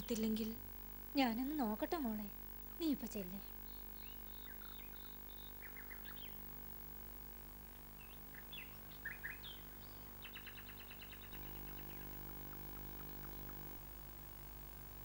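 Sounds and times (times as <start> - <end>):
faint birdsong chirps: 0.0 - 6.8, 7.6 - 13.9
low electrical hum: 0.0 - 15.0.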